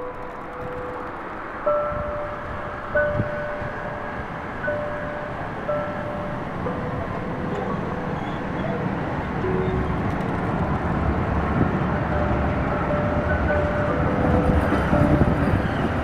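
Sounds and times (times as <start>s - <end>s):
tram rumbling on rails: 0.0s - 16.0s.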